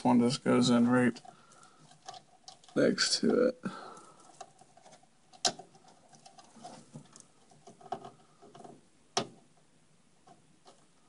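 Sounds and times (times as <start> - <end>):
scratching and rustling of wires: 0.0 - 11.0.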